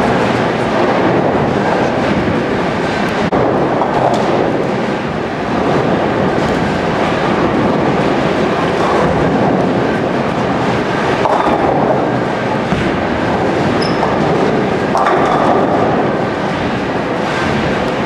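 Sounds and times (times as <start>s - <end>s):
bowling balls rolling: 0.0s - 18.0s
bowling pins clattering: 0.0s - 18.0s.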